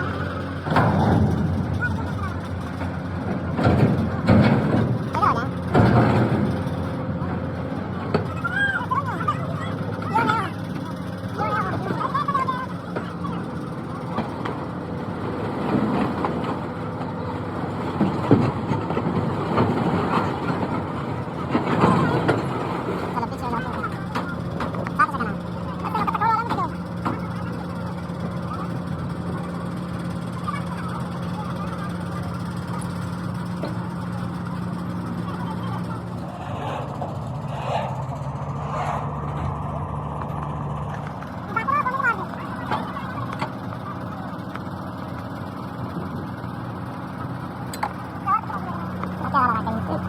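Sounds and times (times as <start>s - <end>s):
engine knocks: 0.0s - 50.0s
engine running: 0.0s - 50.0s.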